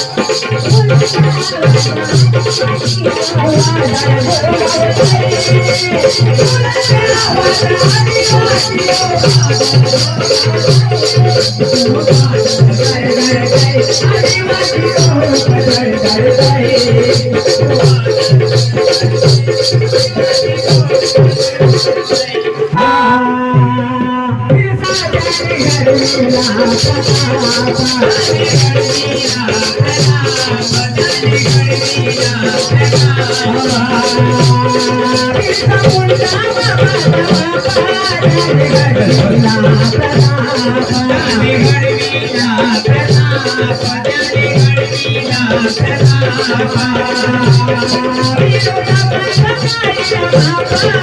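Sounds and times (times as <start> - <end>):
low drum beat: 0.0 - 21.8, 22.7 - 49.7
high rattling pulse: 0.1 - 22.1, 24.8 - 51.0.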